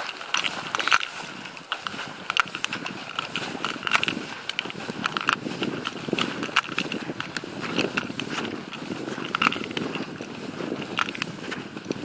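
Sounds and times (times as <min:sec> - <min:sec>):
footsteps crunching through grass: 0:00.0 - 0:12.0
small sharp clicks: 0:00.0 - 0:12.0.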